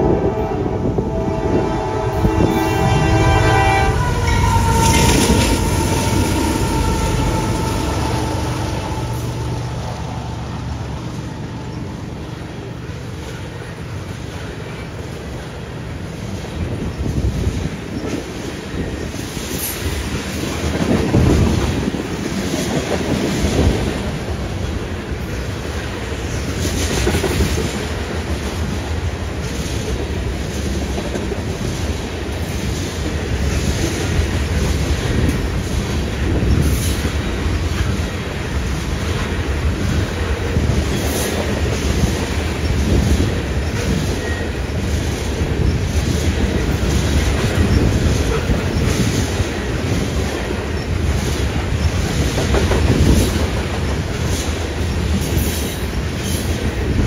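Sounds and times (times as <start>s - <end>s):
freight train rumble: 0.0s - 57.0s.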